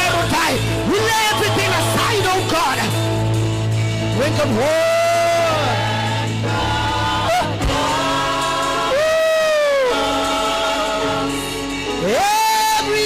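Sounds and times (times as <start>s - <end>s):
person singing gospel: 0.0s - 3.0s, 4.7s - 13.0s.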